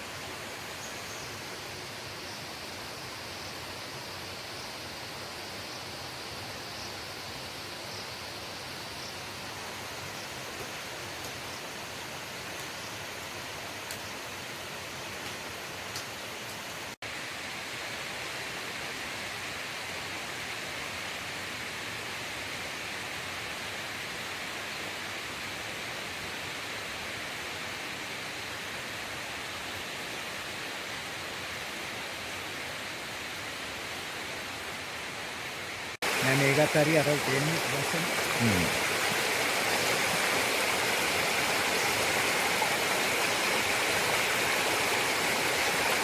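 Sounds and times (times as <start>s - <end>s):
rainforest ambience hiss: 0.0s - 46.0s.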